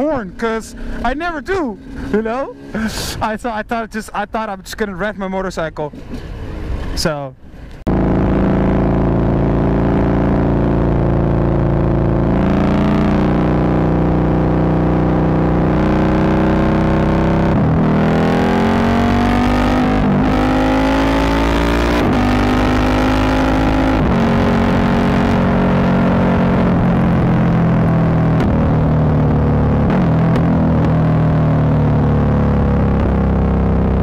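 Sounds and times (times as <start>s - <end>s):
motorcycle engine accelerating: 0.0s - 3.4s, 7.8s - 34.0s.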